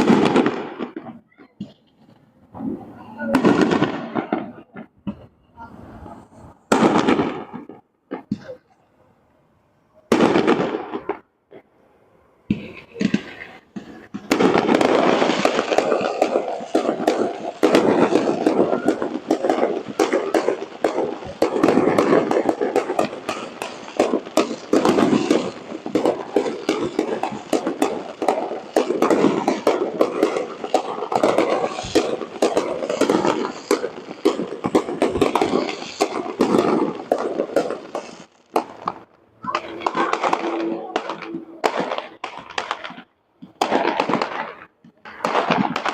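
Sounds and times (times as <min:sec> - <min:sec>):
fireworks bangs and crackles: 0:00.0 - 0:08.9, 0:10.1 - 0:45.9.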